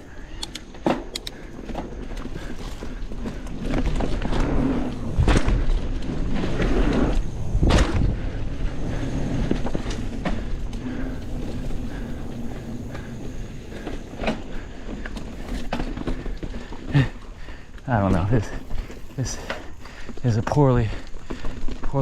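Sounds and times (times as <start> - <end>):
bike knocking over rocks: 0.7 - 8.2, 9.4 - 20.2
bike tyres rumbling on rocks: 1.0 - 22.0.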